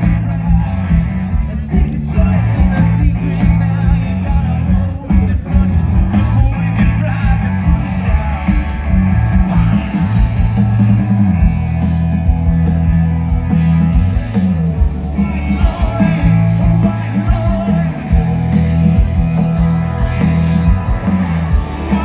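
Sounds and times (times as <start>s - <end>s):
live rock band through loudspeakers: 0.0s - 22.0s.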